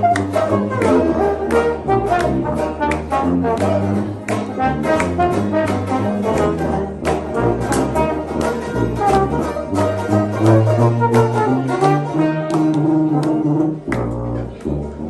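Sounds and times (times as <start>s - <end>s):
brass band playing jazz: 0.0s - 15.0s.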